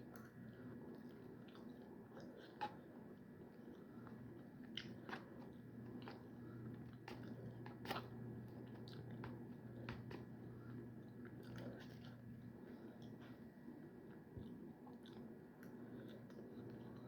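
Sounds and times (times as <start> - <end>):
faint low hum: 0.0 - 17.0
person chewing food: 0.1 - 17.0.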